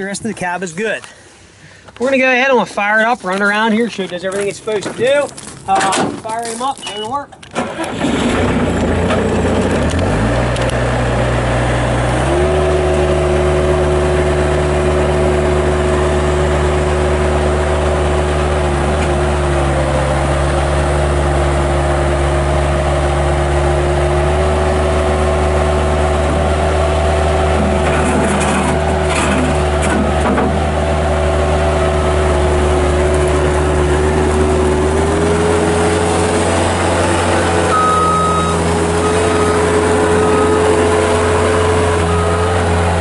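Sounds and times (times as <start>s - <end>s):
diesel engine running: 6.9s - 43.0s.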